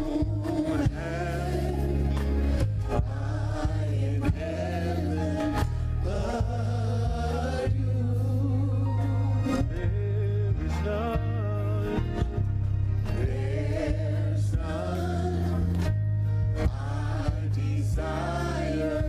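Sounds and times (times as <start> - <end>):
bass and drums: 0.0 - 19.0
gospel choir singing: 0.0 - 19.0.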